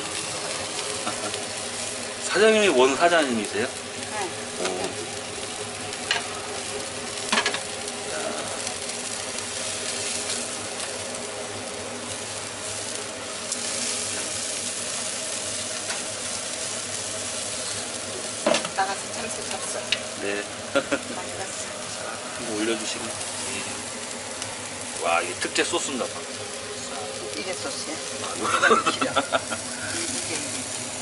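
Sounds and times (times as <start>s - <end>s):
meat sizzling on a grill: 0.0s - 31.0s.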